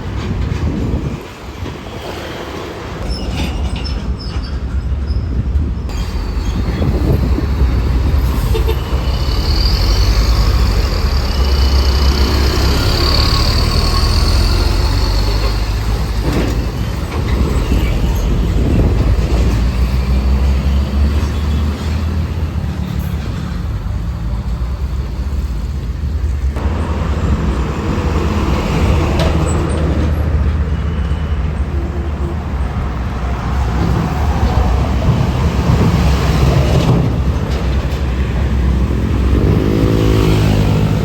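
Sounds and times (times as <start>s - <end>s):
buses and trucks passing: 0.0s - 41.0s.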